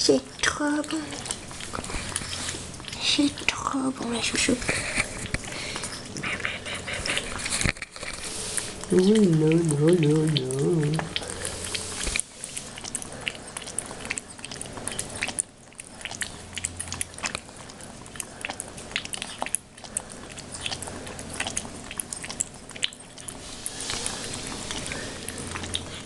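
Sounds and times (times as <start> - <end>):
ferrets lapping soup: 0.0 - 26.0.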